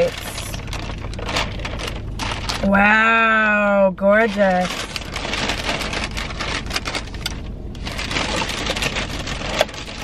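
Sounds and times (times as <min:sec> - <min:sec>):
plastic bag rustling: 0:00.0 - 0:02.9, 0:04.1 - 0:10.0.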